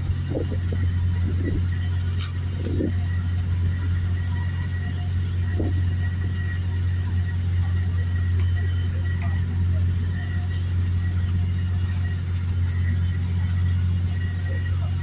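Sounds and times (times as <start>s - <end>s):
ship engine droning: 0.0s - 15.0s.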